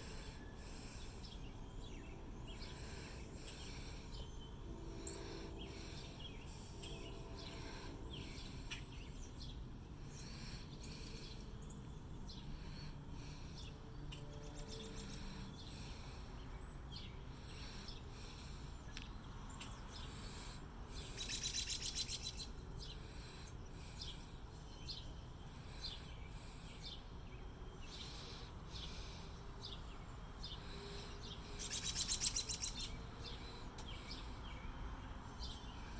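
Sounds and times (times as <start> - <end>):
bird trilling song: 0.0 - 18.1, 21.0 - 23.2, 23.8 - 35.9
birds chirping: 0.0 - 35.9.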